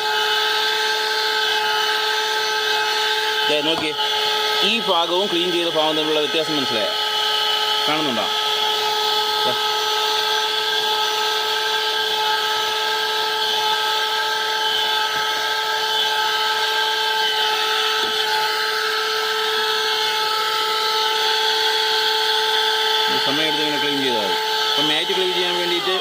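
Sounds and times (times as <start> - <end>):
car vacuum cleaner whining: 0.0 - 26.0.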